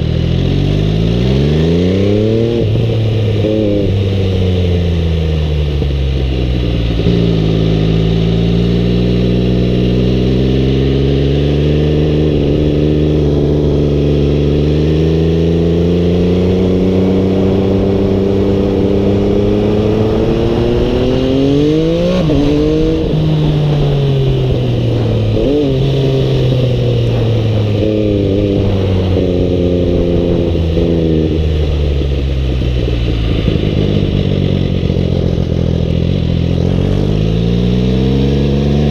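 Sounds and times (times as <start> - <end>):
motorcycle engine revving loudly: 0.0 - 38.9.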